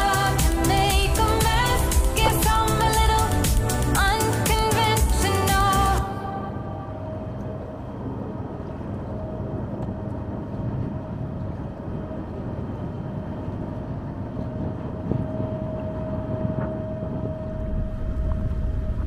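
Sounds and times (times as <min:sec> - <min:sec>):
ferry engine drone: 0:00.0 - 0:19.0
thin steady whine: 0:00.0 - 0:19.0.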